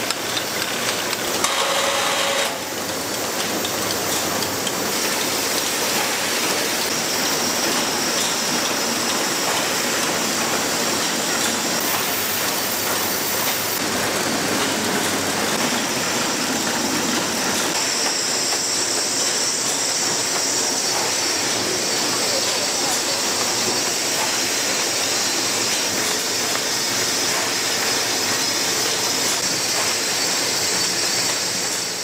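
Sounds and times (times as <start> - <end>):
packaging machinery din: 0.1 - 32.0.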